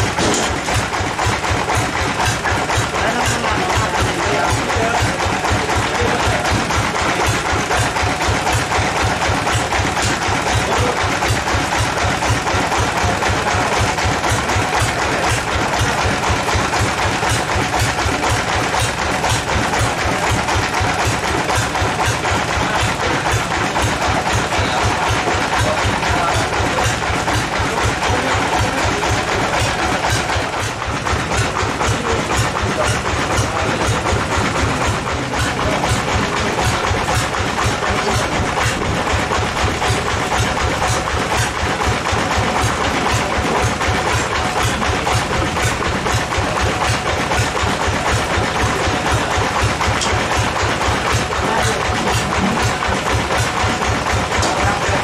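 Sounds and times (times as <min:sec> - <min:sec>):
engine beat: 0:00.0 - 0:55.0.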